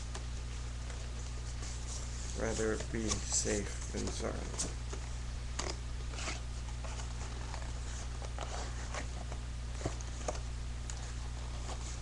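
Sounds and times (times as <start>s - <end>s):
low electrical hum: 0.0s - 12.0s
cardboard scraping and tapping: 0.8s - 12.0s.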